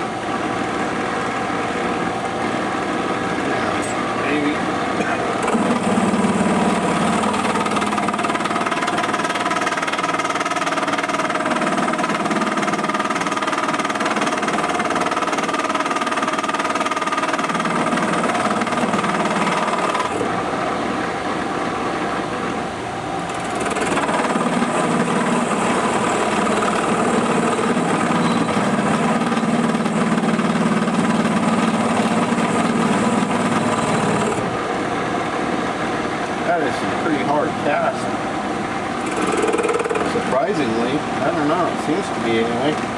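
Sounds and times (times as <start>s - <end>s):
milling machine cutting iron: 0.0s - 22.5s, 23.2s - 34.8s, 35.9s - 42.9s.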